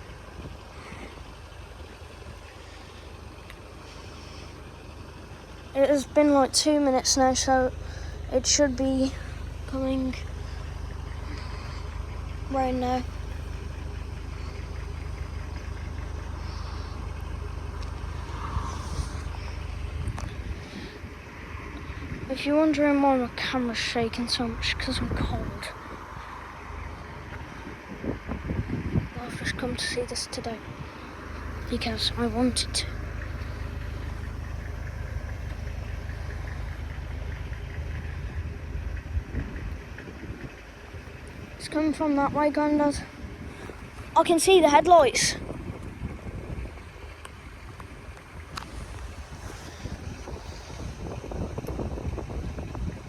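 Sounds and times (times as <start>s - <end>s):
low engine hum: 0.0s - 53.0s
outdoor noise: 0.0s - 53.0s.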